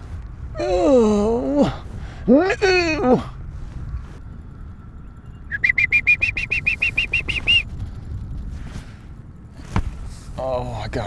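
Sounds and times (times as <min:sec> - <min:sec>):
small bird chirping: 0:00.0 - 0:10.3.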